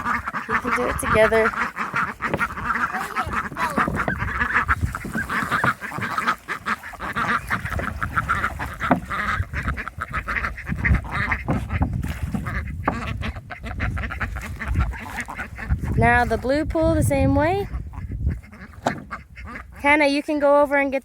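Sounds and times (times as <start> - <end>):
ducks quacking: 0.0 - 20.7.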